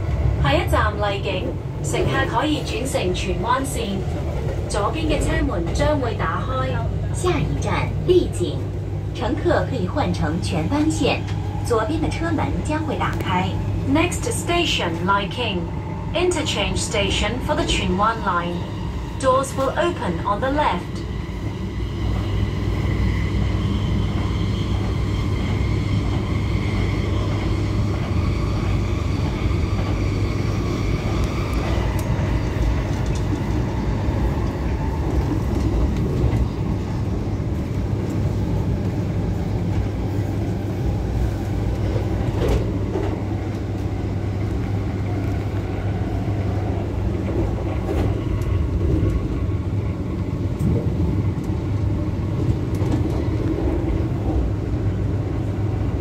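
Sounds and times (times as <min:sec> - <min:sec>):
train rumble on track: 0:00.0 - 0:56.0.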